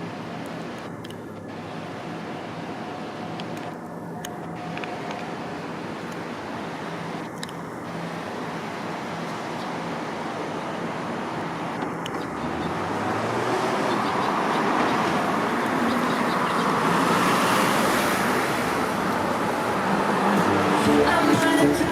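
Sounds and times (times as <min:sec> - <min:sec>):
passing cars: 0:00.0 - 0:21.9.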